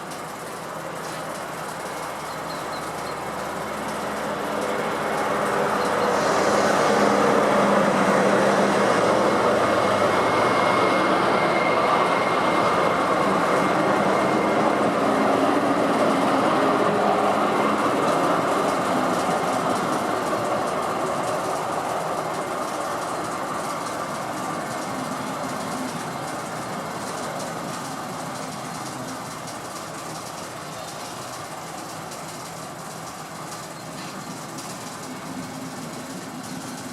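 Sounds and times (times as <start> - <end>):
train rumbling along track: 0.0 - 36.9.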